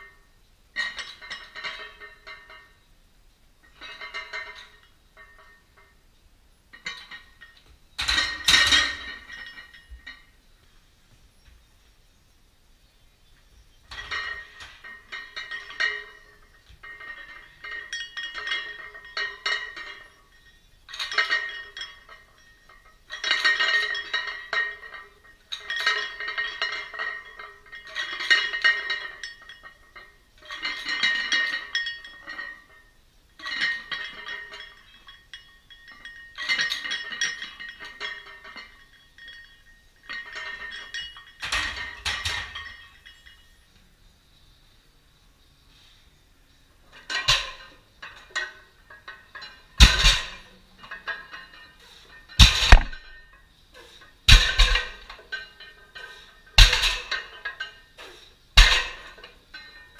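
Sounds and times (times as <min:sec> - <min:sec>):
weight plates clinking on barbell: 0:00.0 - 0:02.8, 0:03.6 - 0:06.0, 0:06.7 - 0:10.4, 0:13.7 - 0:43.9, 0:45.7 - 0:59.9.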